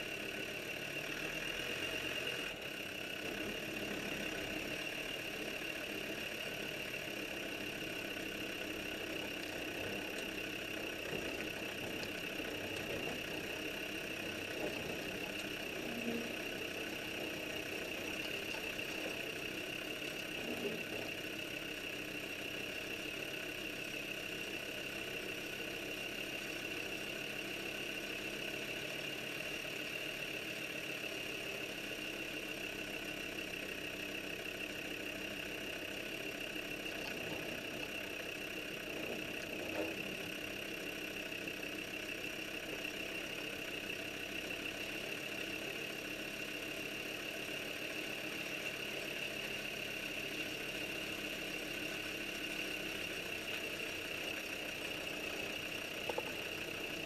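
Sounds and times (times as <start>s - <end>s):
car engine running at low speed: 0.0s - 57.0s.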